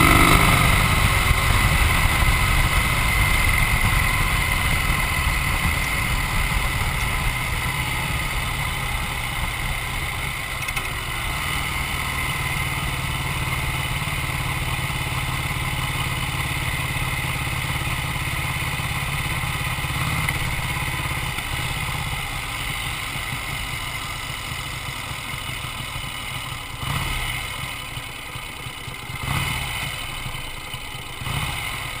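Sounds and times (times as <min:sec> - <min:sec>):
motorcycle engine rumbling: 0:00.0 - 0:32.0.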